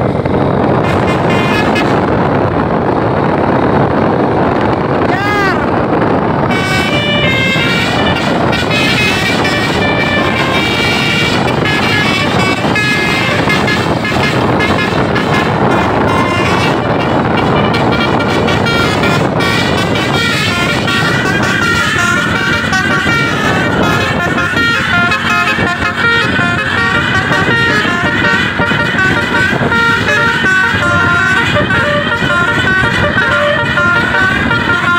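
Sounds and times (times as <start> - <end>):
bus musical horn melody: 0.0 - 2.8, 6.0 - 34.9
bus engine: 0.0 - 34.9
road noise: 0.0 - 34.9.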